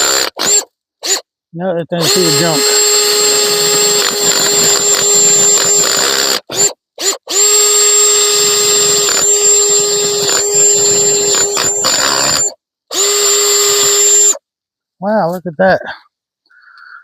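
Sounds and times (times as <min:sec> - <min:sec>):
drill driving chainsaw attachment: 0:00.0 - 0:01.2, 0:02.0 - 0:14.4.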